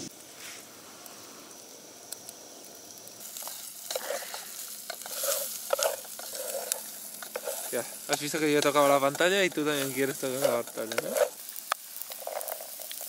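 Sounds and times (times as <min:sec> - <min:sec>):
food sizzling in a pot: 0:00.0 - 0:13.0
gas stove hissing: 0:00.0 - 0:13.0.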